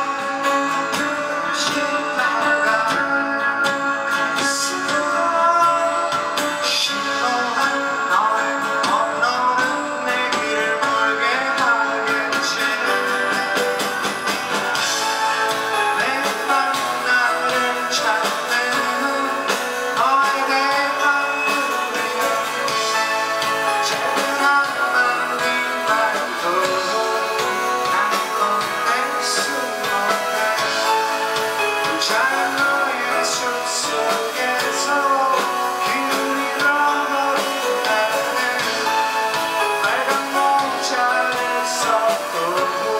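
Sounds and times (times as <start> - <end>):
band playing live: 0.0 - 42.9
guitars: 0.0 - 42.9
person singing: 0.0 - 42.9.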